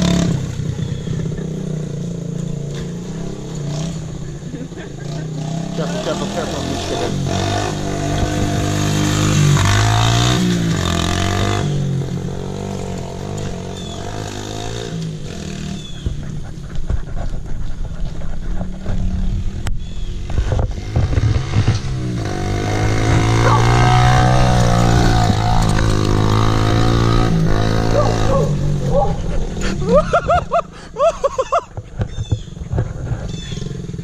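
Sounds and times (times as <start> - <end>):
small motorbike engine revving: 0.0 - 16.8, 17.4 - 30.3, 32.1 - 34.0.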